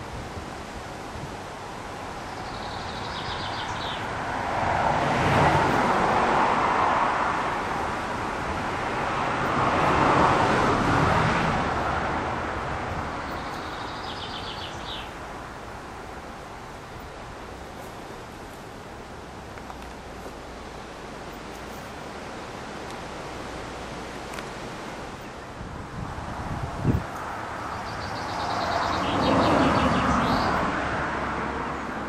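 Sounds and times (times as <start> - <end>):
vehicles passing on road: 0.0 - 32.0.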